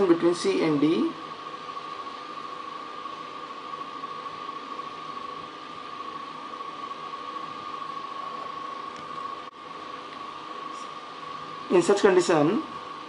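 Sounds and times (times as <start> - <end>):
background hiss: 0.0 - 13.0
constant high whine: 0.0 - 13.0.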